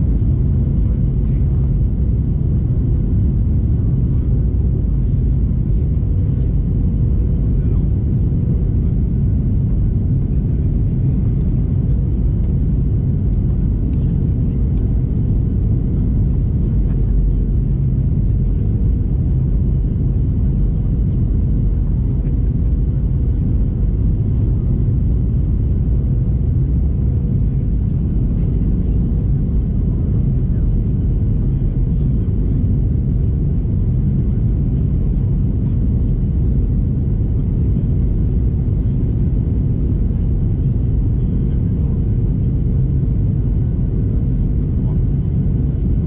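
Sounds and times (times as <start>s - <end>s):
aircraft cabin airflow rush: 0.0s - 46.0s.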